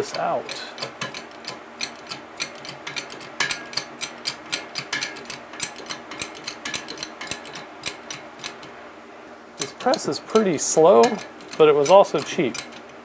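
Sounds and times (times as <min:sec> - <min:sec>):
hydraulic press metallic clicks: 0:00.0 - 0:08.8, 0:09.6 - 0:13.0.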